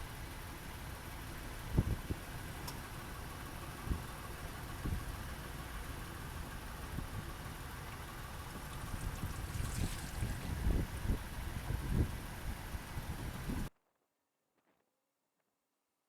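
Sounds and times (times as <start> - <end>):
low engine rumble: 0.0 - 13.7.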